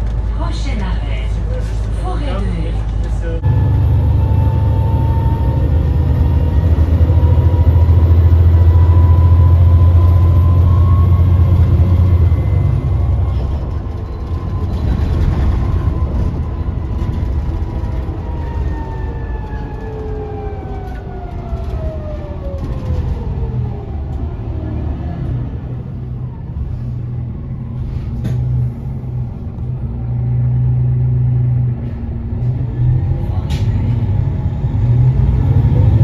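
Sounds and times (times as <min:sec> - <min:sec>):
bus drive whine: 0:00.0 - 0:36.0
bus heavy low drone: 0:00.0 - 0:36.0.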